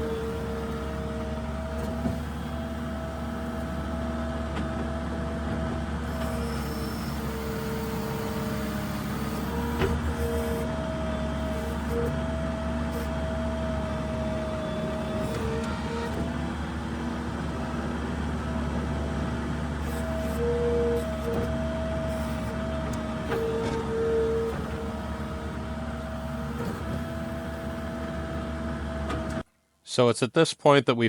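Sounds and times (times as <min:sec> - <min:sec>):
diesel engine running: 0:00.0 - 0:29.5.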